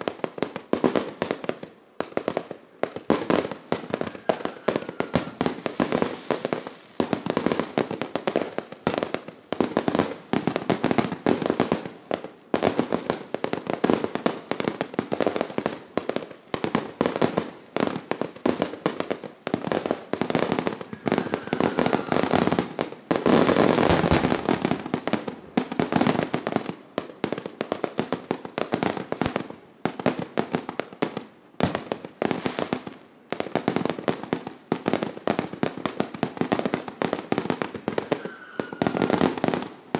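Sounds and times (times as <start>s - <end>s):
fireworks bangs and crackling pops: 0.0s - 39.9s.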